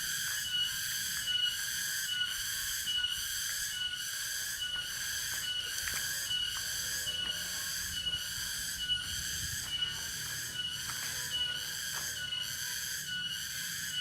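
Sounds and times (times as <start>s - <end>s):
cicada buzzing: 0.0s - 14.0s.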